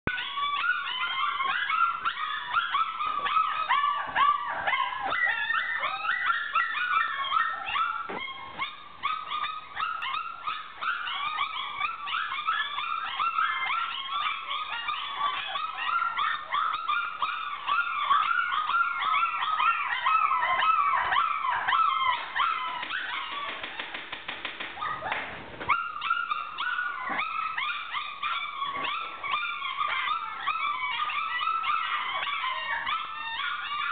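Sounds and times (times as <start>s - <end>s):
puppies crying: 0.1s - 33.9s.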